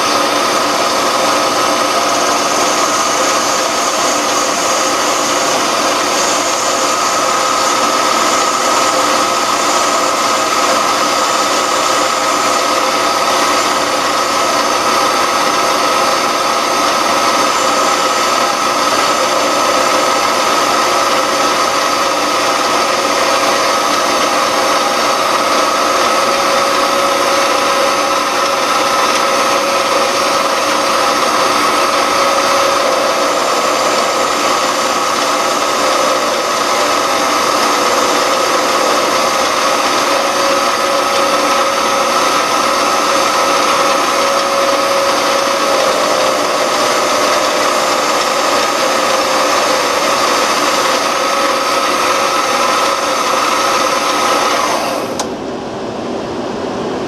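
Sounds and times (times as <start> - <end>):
lathe motor whining: 0.0 - 56.9.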